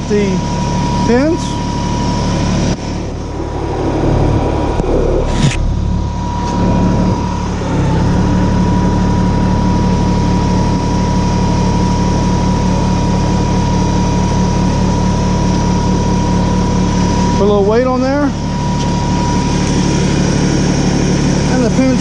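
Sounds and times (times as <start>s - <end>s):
steady whine: 0.0s - 22.0s
tractor diesel engine running: 0.0s - 22.0s.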